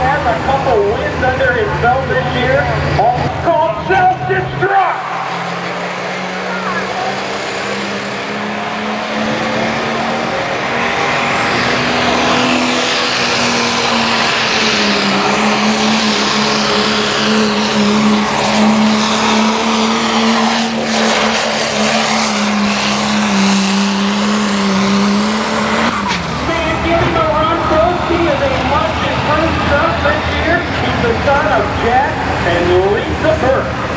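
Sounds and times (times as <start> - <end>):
truck engine drone: 0.0 - 33.9.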